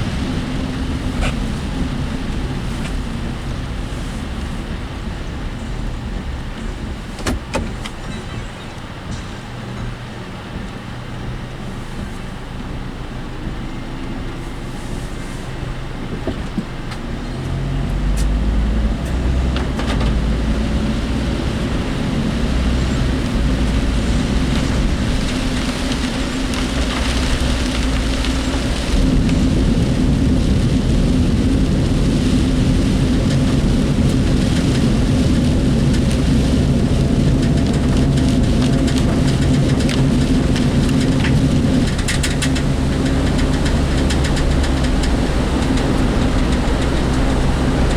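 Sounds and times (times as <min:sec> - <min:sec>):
vehicle body rattling: 0:00.0 - 0:47.9
vehicle engine from inside cabin: 0:00.0 - 0:47.9.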